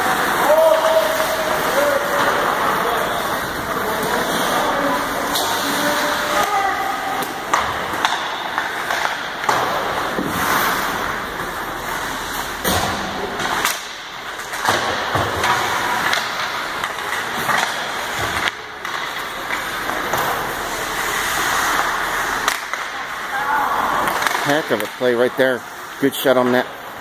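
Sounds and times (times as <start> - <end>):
hockey sticks and puck knocking: 0.0 - 27.0
skate blades scraping ice: 0.0 - 27.0.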